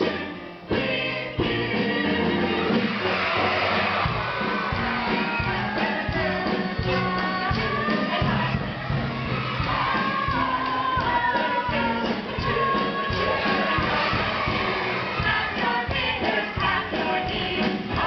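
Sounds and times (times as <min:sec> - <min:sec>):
voices singing a polka: 0:00.0 - 0:18.0.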